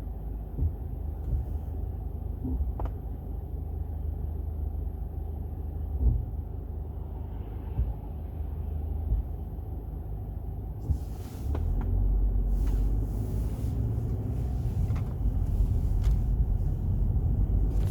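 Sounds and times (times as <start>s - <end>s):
car engine low rumble: 0.0s - 17.9s.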